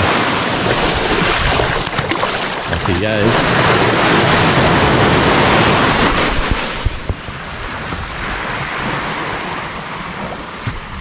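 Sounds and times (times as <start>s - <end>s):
small waves washing on sand: 0.0s - 11.0s
wind on microphone: 0.0s - 11.0s.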